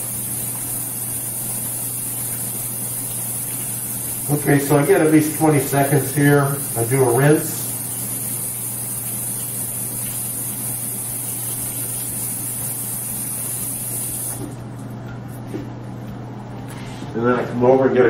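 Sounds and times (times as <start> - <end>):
faucet running: 0.0 - 14.6.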